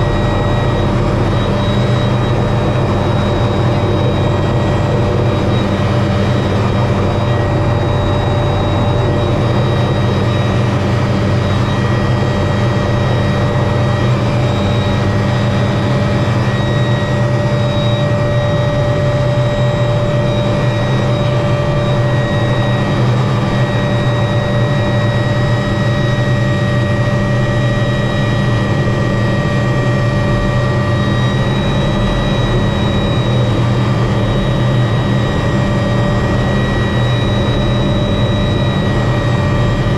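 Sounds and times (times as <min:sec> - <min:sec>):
helicopter engine whine: 0:00.0 - 0:39.9
helicopter rotors droning: 0:00.0 - 0:39.9.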